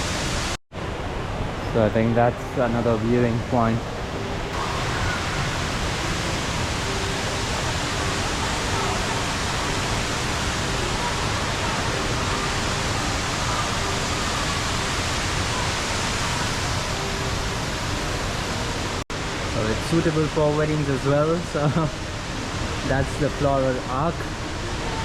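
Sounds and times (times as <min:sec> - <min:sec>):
indoor waterfall rushing: 0:00.0 - 0:25.0.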